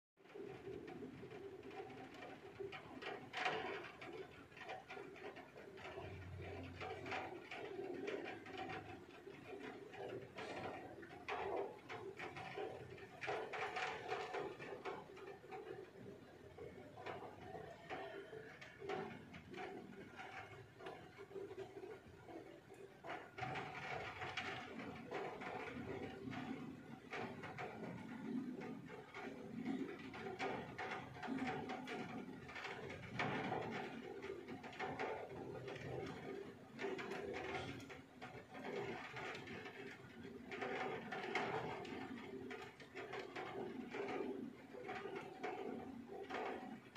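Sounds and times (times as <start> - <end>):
raindrops tapping: 0.2 - 46.9.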